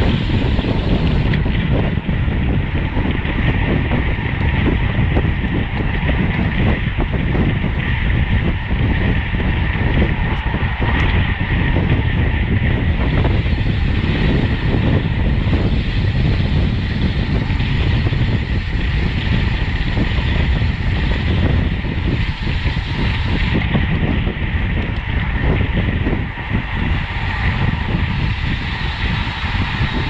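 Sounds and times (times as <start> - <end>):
road and tyre hiss: 0.0 - 6.0, 7.8 - 30.0
wind rush on microphone: 0.0 - 30.0.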